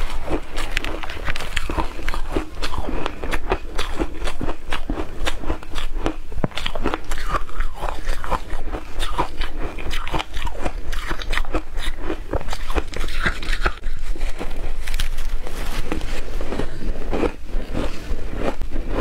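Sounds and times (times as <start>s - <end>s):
ice being chewed crunching: 0.0s - 19.0s.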